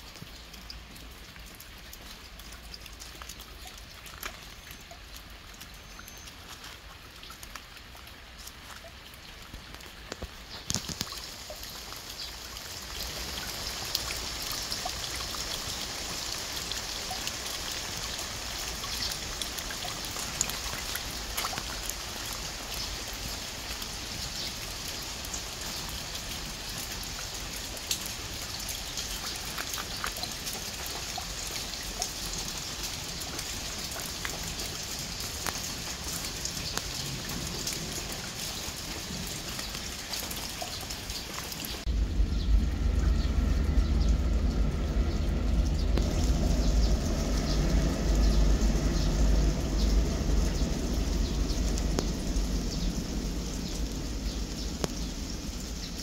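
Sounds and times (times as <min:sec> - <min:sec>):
rain hiss: 0:00.0 - 0:56.0
raindrops ticking: 0:00.0 - 0:56.0.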